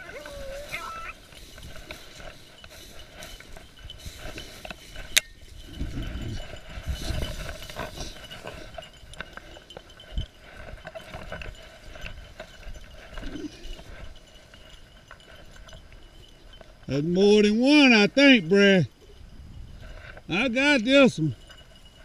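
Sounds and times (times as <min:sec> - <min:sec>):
footsteps through dry grass: 0:00.0 - 0:22.0.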